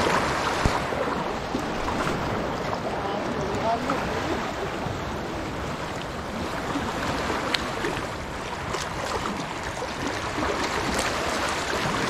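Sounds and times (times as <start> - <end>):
seawater splashing around rocks: 0.0 - 12.0.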